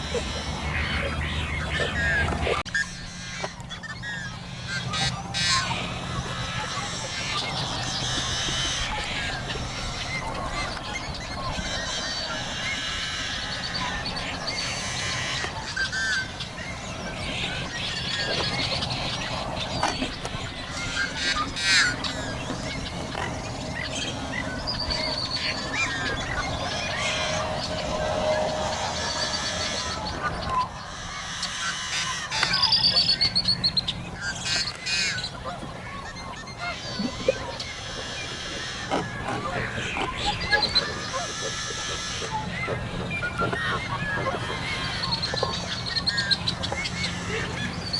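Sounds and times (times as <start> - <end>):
fowl squawking: 0.0 - 47.9.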